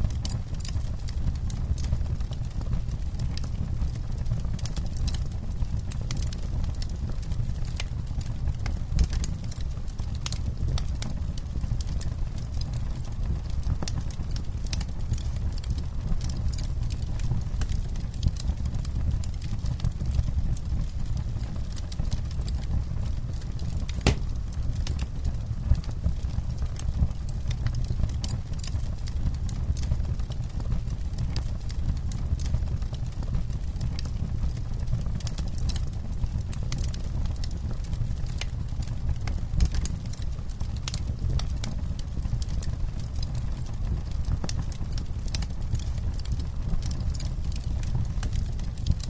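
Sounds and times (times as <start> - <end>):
campfire crackling and popping: 0.0 - 49.0
low fire rumble: 0.0 - 49.0.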